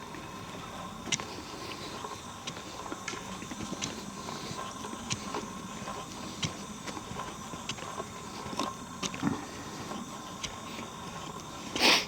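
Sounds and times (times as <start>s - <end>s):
footsteps on forest trail: 0.1s - 12.0s.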